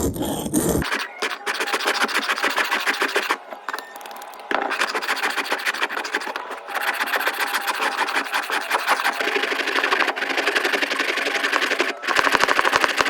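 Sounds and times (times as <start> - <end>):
metal scraping on scissors: 0.8 - 13.0.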